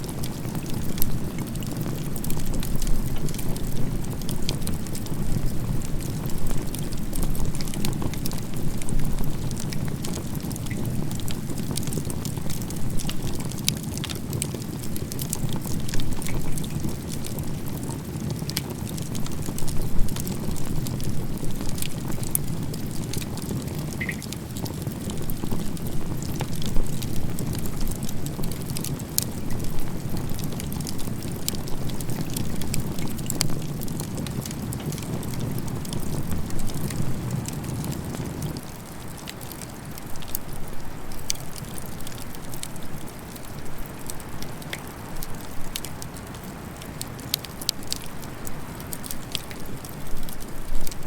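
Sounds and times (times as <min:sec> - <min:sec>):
bonfire crackling and popping: 0:00.0 - 0:51.0.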